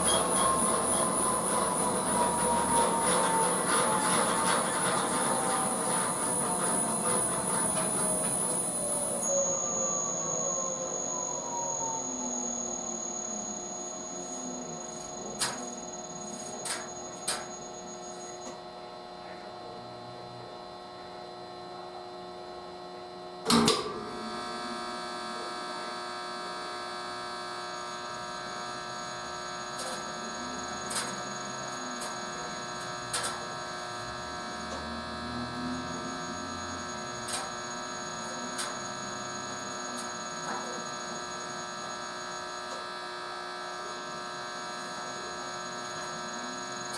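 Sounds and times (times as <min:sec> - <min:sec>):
washing machine running: 0:00.0 - 0:18.6, 0:23.4 - 0:46.9.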